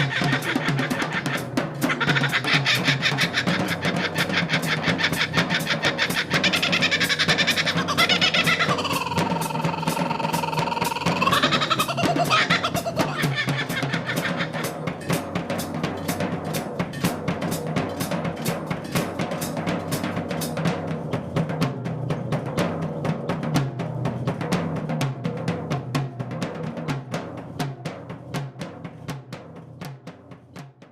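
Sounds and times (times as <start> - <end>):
fast drum strokes: 0.0 - 30.9.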